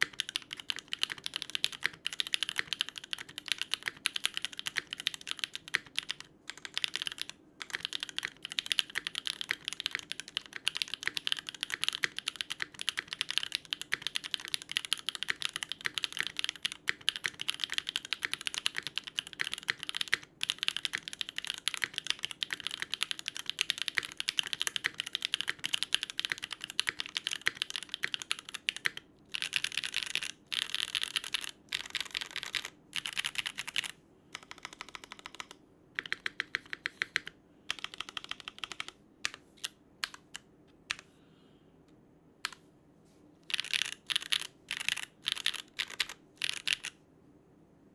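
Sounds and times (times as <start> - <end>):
fast mechanical keyboard typing: 0.0 - 40.4, 43.5 - 46.9.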